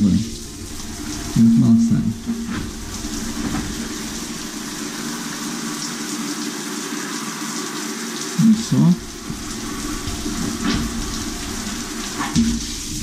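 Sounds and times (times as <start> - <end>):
shower water splashing on tiles: 0.0 - 13.0.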